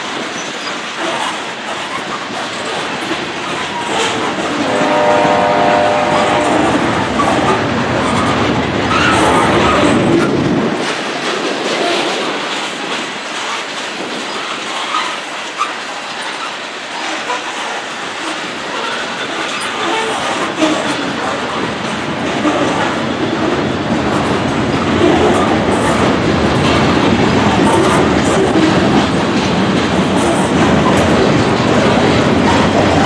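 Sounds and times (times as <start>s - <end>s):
deep train rumble: 0.0s - 33.0s
train wheels clattering on rails: 0.0s - 33.0s.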